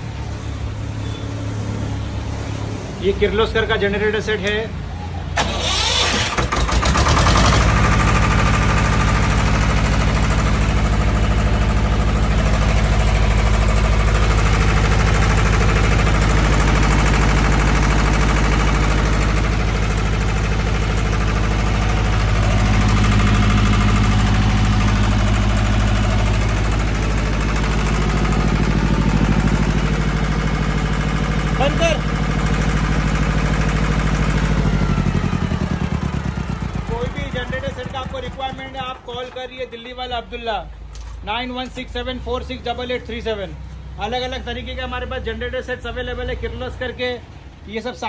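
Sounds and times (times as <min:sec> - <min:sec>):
diesel generator engine running: 0:00.0 - 0:41.0.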